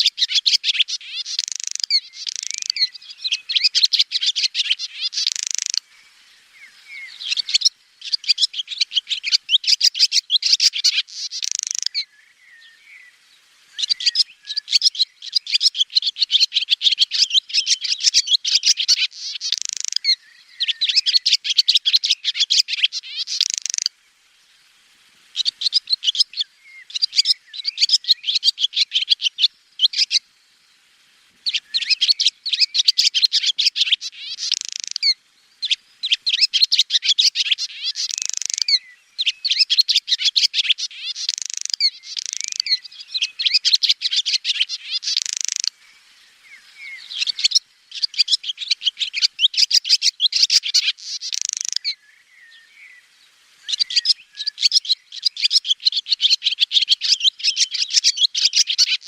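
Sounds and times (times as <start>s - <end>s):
swallow twittering: 0.0s - 23.9s, 25.3s - 30.2s, 31.4s - 59.0s.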